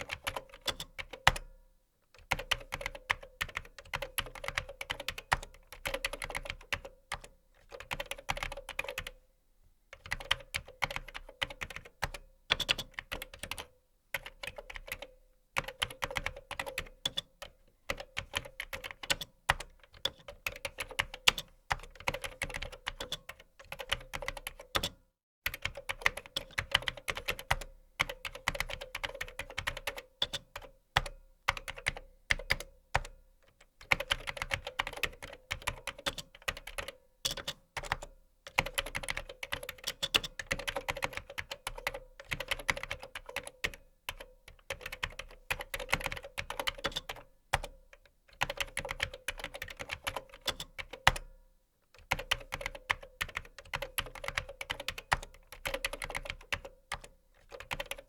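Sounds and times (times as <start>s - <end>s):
fast typing on keyboard: 0.0s - 1.5s, 2.2s - 9.2s, 10.0s - 24.9s, 25.5s - 33.2s, 33.8s - 51.3s, 52.0s - 58.0s.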